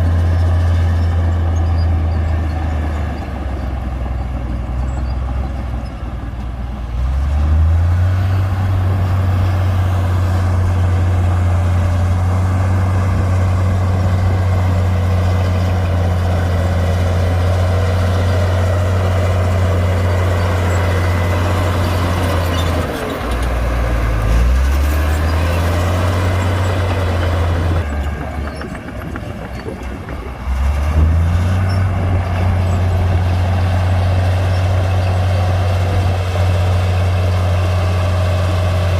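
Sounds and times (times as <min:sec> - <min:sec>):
bulldozer diesel engine revving: 0:00.0 - 0:38.9.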